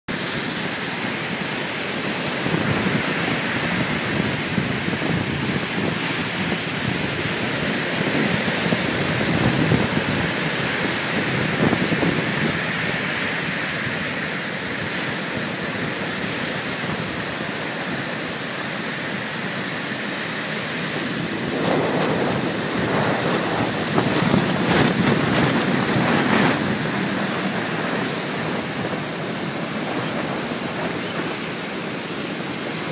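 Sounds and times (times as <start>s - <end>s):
heavy surf breaking: 0.1s - 32.9s
wind buffeting microphone: 0.1s - 32.9s.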